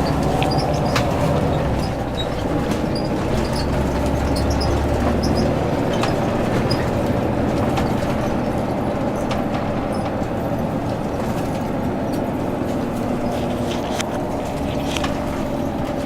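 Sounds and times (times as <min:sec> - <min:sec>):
bus diesel engine drone: 0:00.0 - 0:16.0
small rattles and clicks: 0:00.0 - 0:16.0.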